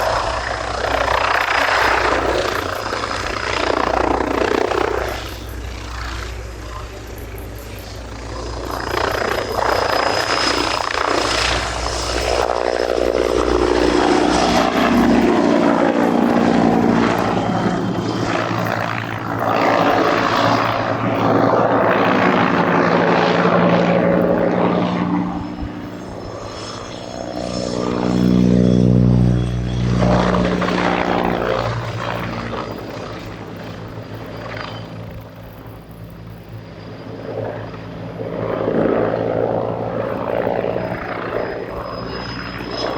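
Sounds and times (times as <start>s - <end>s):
helicopter flying low: 0.0s - 42.9s.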